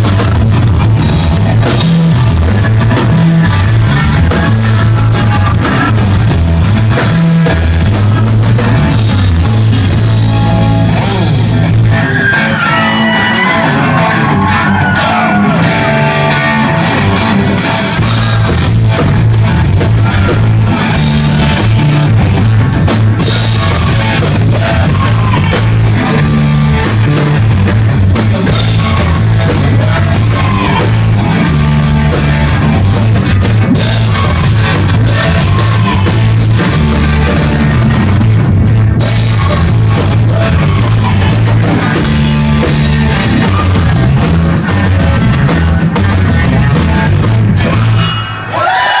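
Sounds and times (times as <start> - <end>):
hard rock band playing live: 0.0 - 49.0.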